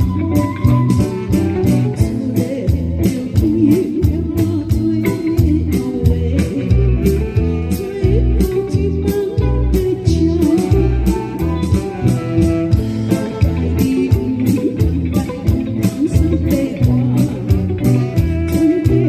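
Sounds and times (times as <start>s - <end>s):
band playing a song: 0.0s - 19.0s
person singing: 0.0s - 19.0s.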